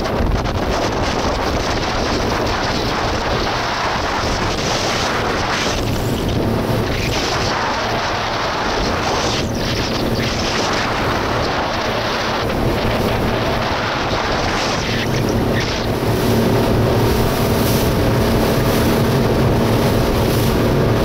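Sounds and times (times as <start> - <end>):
water rushing in boat wake: 0.0 - 21.0
wind buffeting microphone: 0.0 - 21.0.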